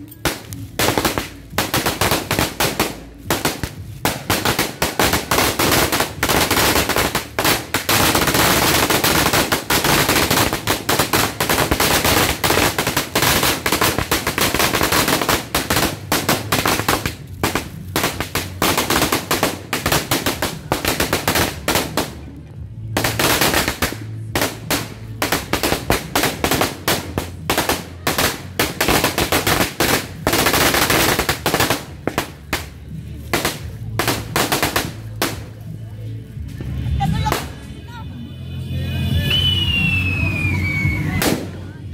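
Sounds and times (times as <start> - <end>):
firecracker string crackling: 0.0 - 38.1, 39.0 - 41.9.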